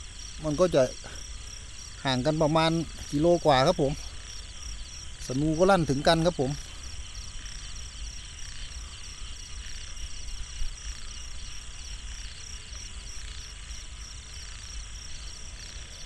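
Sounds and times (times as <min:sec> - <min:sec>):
frogs calling: 0:00.0 - 0:16.0
insects trilling: 0:00.0 - 0:16.0.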